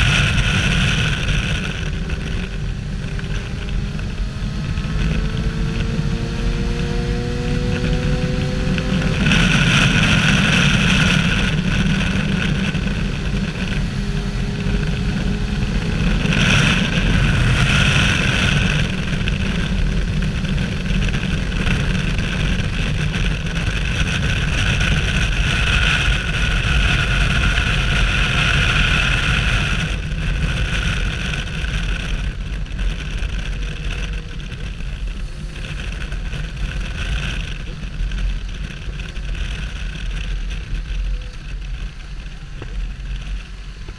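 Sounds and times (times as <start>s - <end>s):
motorcycle engine at speed: 0.0s - 43.9s
wind rushing on microphone: 0.0s - 43.9s.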